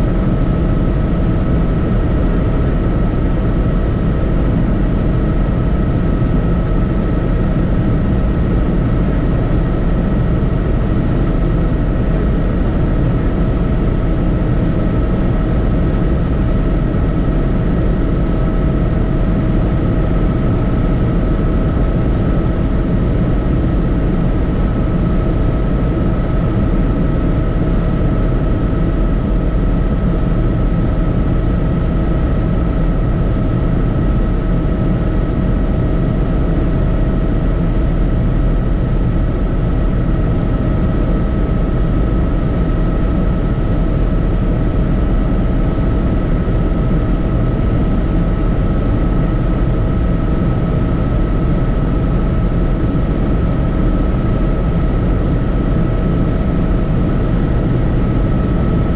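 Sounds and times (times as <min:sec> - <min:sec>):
helicopter rotor and engine rumble: 0:00.0 - 0:58.9.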